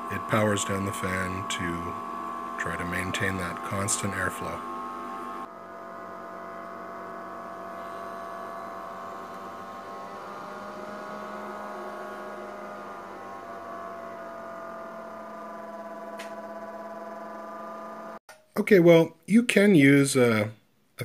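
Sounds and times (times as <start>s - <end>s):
cooling fan humming: 0.0s - 18.2s.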